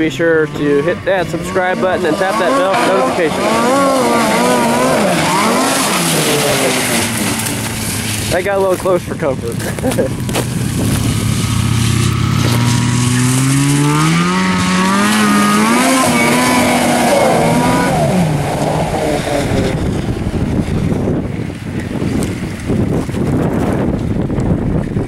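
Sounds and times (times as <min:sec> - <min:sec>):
snowmobile engine at high revs: 0:00.0 - 0:25.0
rushing air: 0:03.2 - 0:25.0.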